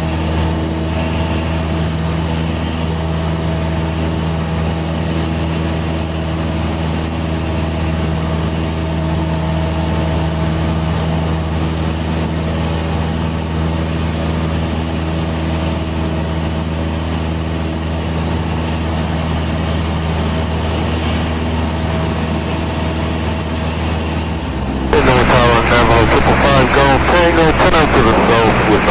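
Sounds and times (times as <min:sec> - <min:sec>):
airplane engine and propeller droning: 0:00.0 - 0:28.9.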